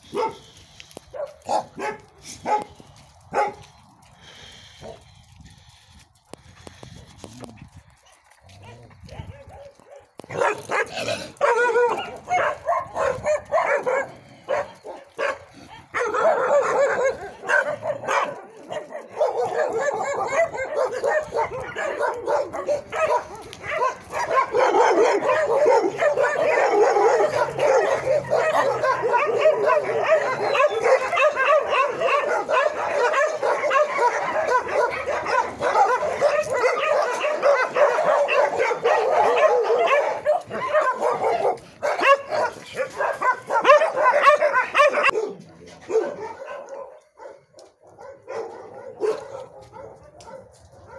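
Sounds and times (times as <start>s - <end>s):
many dogs barking: 0.0s - 50.9s.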